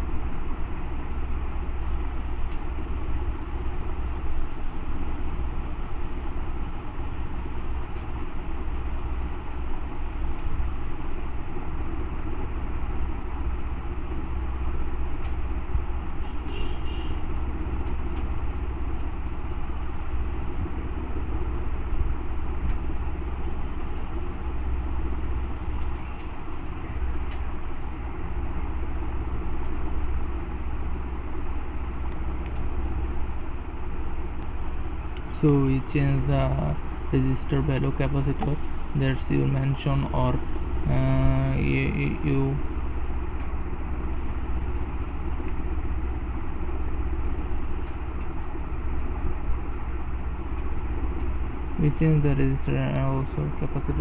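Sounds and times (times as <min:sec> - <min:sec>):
low rumble and hiss: 0:00.0 - 0:54.0.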